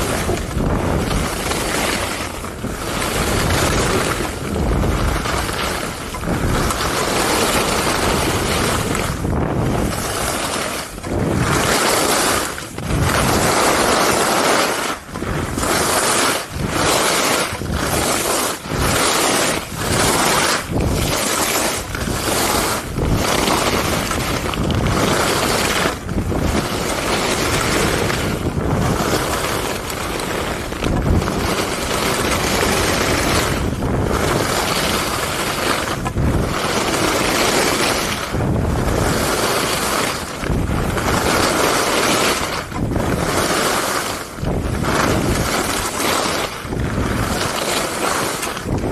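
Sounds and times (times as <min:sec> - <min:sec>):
skis scraping on snow: 0:00.0 - 0:48.9
wind noise on microphone: 0:00.0 - 0:48.9.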